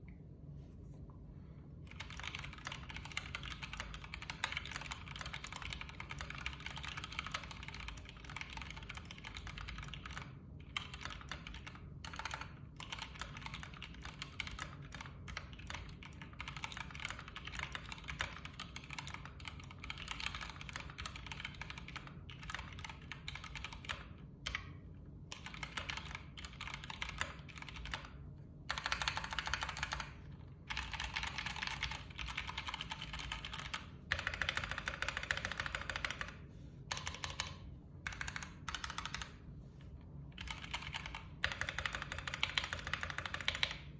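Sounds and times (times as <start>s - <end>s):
mechanical keyboard typing: 1.9s - 24.7s, 25.3s - 39.4s, 40.4s - 43.9s.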